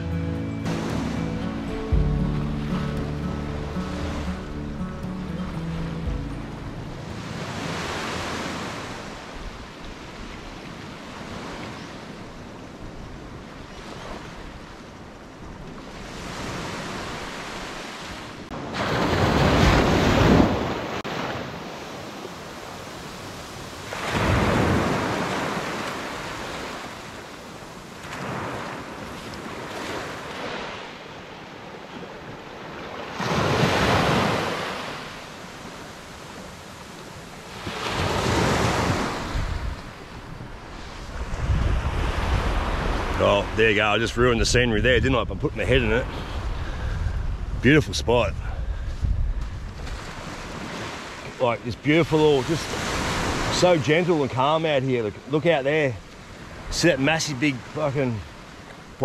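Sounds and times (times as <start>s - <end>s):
waves washing up beach: 0.0s - 59.0s.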